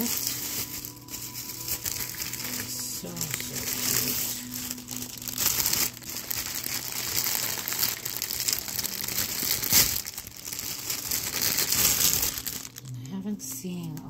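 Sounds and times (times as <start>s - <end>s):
packaging rustling and crumpling: 0.0s - 14.0s.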